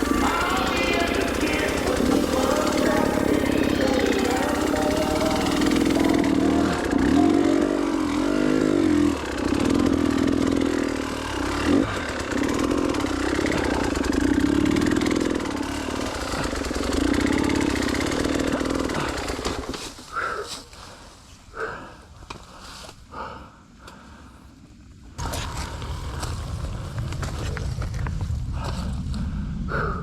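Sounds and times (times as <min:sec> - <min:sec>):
dirt bike engine revving: 0:00.0 - 0:20.5, 0:25.2 - 0:29.0.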